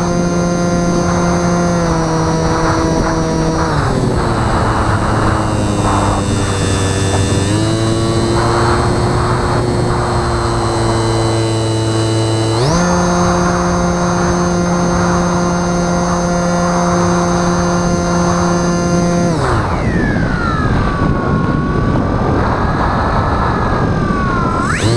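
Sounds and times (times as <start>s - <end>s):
electric motor and propeller whining: 0.0s - 24.9s.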